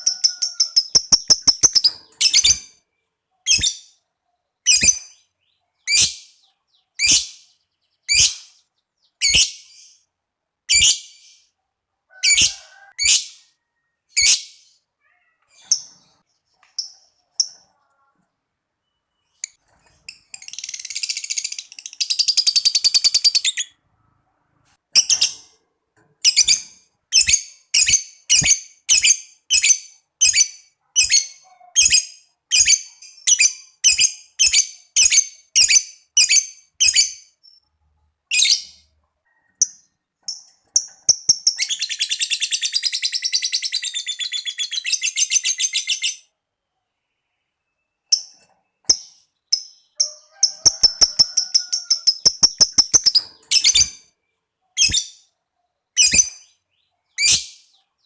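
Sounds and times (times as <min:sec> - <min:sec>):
lovebird chirps and trills: 0:00.0 - 0:10.1, 0:18.8 - 0:23.9, 0:24.9 - 0:25.6, 0:26.2 - 0:46.4, 0:47.2 - 0:58.0.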